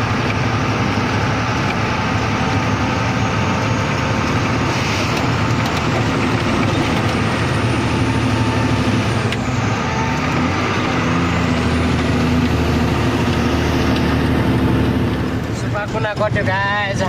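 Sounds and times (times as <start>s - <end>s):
road noise: 0.0s - 17.0s
truck engine running: 0.0s - 17.0s.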